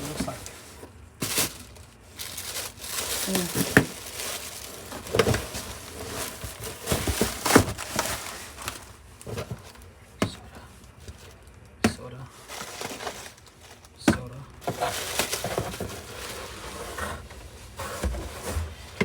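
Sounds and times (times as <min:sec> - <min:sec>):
cardboard packaging rustling: 0:00.0 - 0:19.0.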